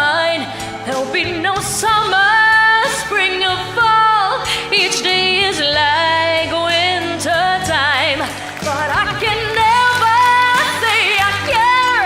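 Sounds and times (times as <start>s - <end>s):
woman singing pop ballad: 0.0s - 12.0s.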